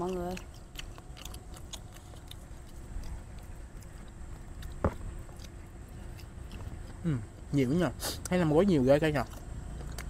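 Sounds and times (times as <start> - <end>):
low steady rumble: 0.0 - 10.0
soft chewing: 0.0 - 10.0.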